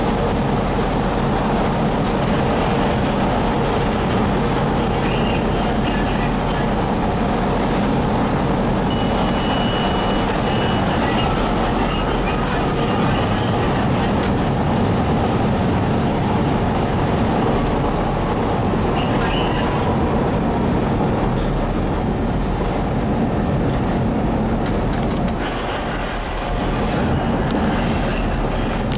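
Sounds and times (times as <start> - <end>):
train wheels rumbling on rail: 0.0 - 28.9.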